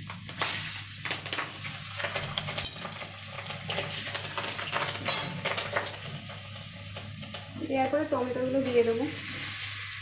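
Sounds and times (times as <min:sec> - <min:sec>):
hot oil sizzling and crackling: 0:00.0 - 0:10.0.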